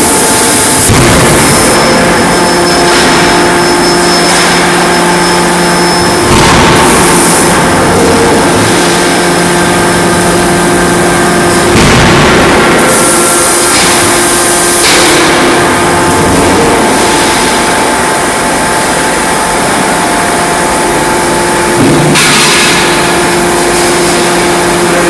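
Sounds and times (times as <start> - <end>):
machinery hum tones: 0.0 - 25.0.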